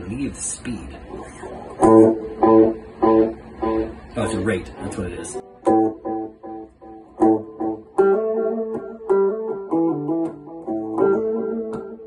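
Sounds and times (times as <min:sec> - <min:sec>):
electric guitar with delay: 0:01.1 - 0:12.0.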